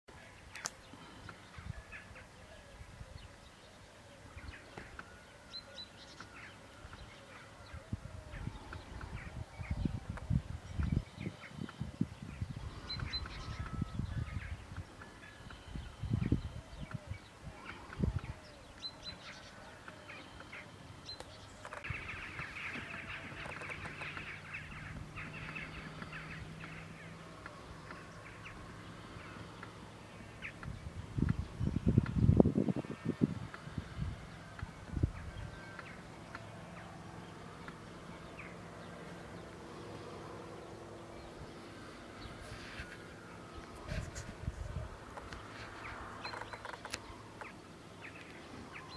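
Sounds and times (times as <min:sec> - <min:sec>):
low steady hum: 0:00.1 - 0:46.3
birds chattering rapidly: 0:00.1 - 0:48.9
songbirds chirping: 0:00.1 - 0:48.9.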